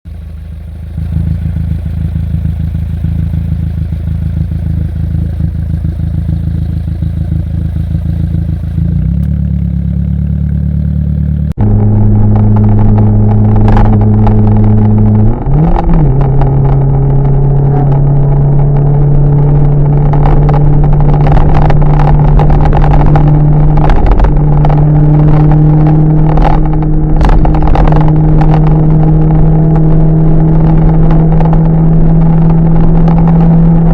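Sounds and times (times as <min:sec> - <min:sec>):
car exhaust droning: 0:00.1 - 0:33.9.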